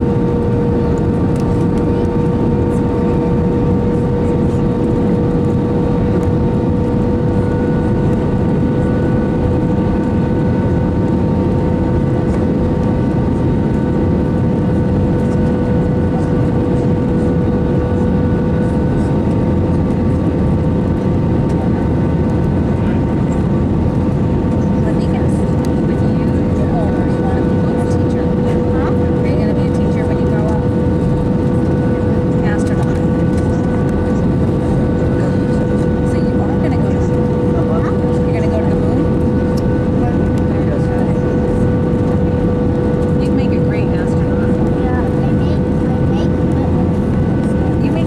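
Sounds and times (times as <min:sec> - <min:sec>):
constant droning tone: 0:00.0 - 0:48.0
jet engines humming: 0:00.0 - 0:48.0.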